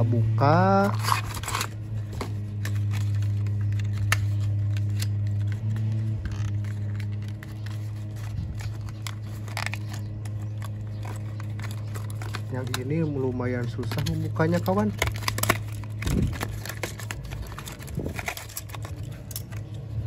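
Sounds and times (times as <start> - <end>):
steady low hum: 0.0 - 20.0
packaging clicks and rustles: 0.8 - 20.0.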